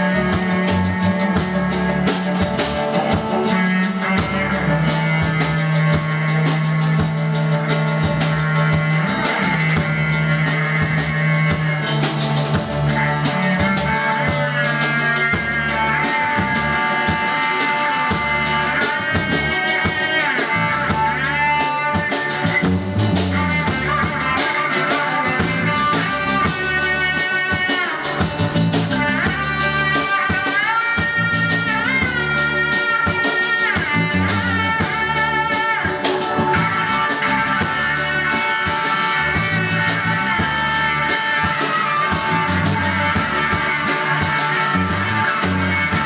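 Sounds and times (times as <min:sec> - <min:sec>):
instrumental rock music: 0:00.0 - 0:46.0
sliding lead guitar line: 0:00.0 - 0:46.0.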